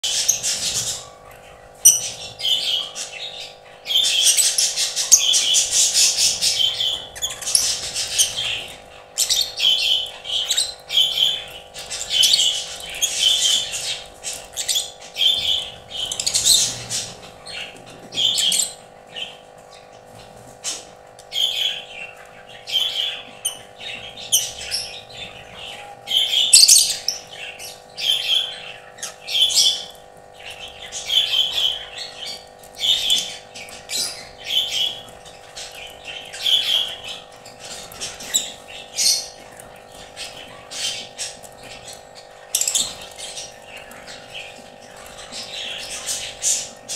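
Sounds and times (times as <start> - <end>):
birds chirping and squawking: 0.0 - 46.9.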